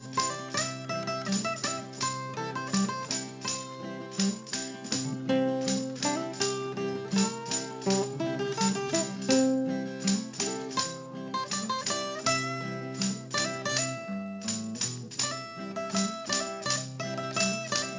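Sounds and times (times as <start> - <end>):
acoustic guitar music with beat: 0.0 - 17.9.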